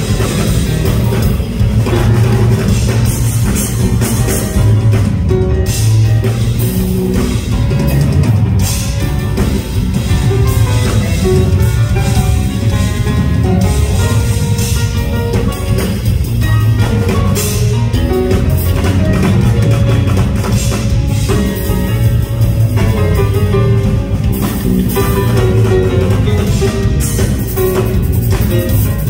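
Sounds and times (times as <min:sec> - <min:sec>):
drum kit beat: 0:00.0 - 0:29.0
grand piano playing: 0:00.0 - 0:29.0.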